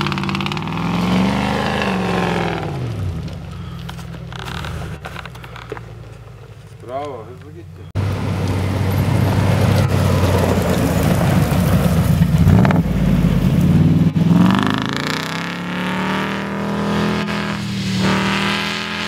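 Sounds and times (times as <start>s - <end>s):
engine revving under load: 0.0s - 5.7s, 7.9s - 19.0s.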